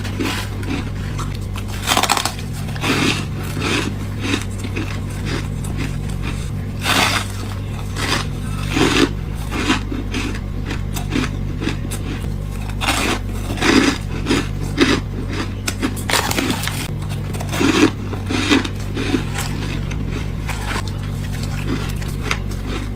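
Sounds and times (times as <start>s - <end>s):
frost crunching while chewed: 0.0s - 22.9s
steady low hum: 0.0s - 22.9s.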